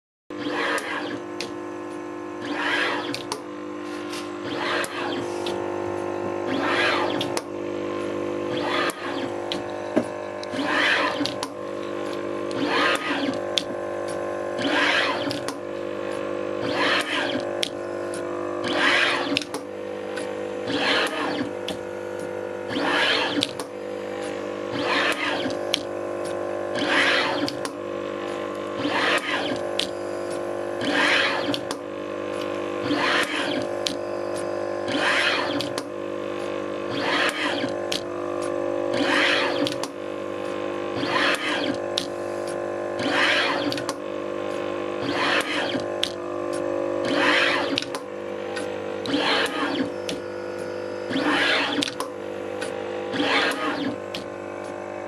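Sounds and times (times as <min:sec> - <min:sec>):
machine hum: 0:00.3 - 0:55.0.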